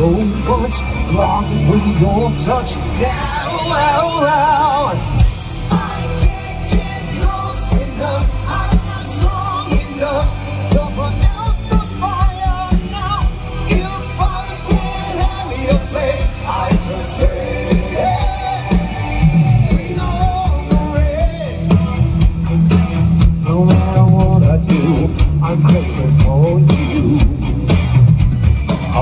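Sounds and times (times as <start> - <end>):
male lead vocal: 0.0 - 22.4, 23.1 - 27.8, 28.7 - 29.0
drums keeping steady beat: 0.0 - 29.0
hard rock band playing: 0.0 - 29.0.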